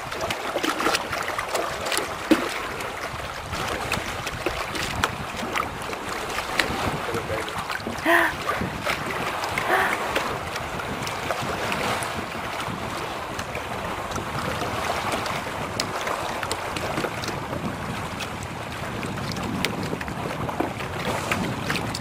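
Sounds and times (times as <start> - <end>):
water washing around elephants: 0.0 - 22.0
wind buffeting microphone: 0.0 - 22.0.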